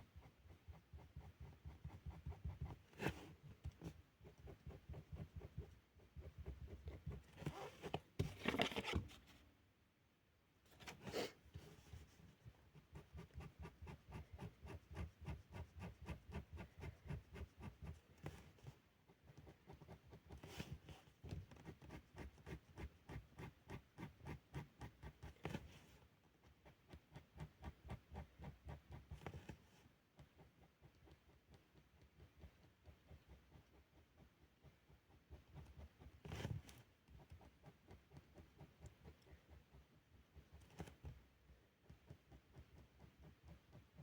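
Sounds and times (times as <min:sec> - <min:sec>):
felt-tip pen scratching on paper: 0:00.0 - 0:08.8, 0:10.8 - 0:44.0.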